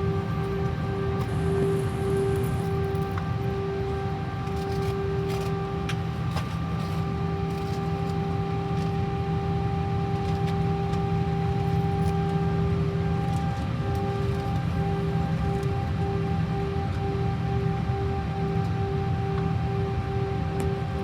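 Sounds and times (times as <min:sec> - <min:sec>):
jet engine drone in cabin: 0:00.0 - 0:21.0.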